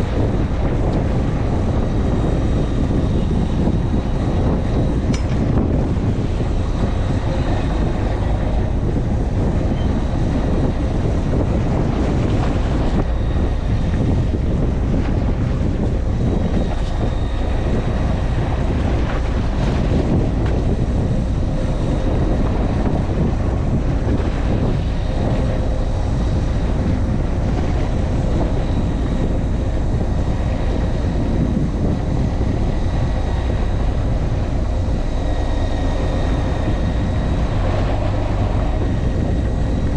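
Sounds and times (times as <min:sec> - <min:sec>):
boat engine rumbling: 0:00.0 - 0:39.9
wind buffeting microphone: 0:00.0 - 0:39.9.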